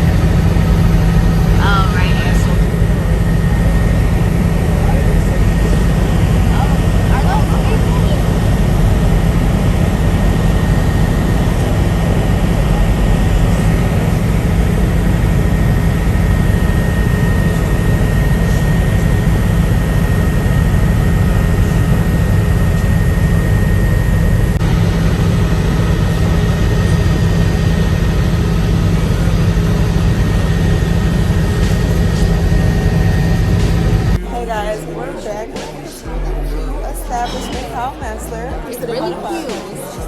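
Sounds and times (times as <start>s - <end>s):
helicopter cabin drone: 0.0s - 40.0s
high whine: 0.0s - 40.0s.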